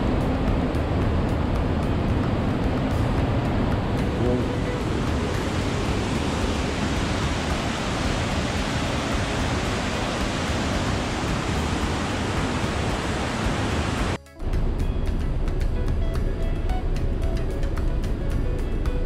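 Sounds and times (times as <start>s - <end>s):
ship wake churning: 0.0s - 19.0s.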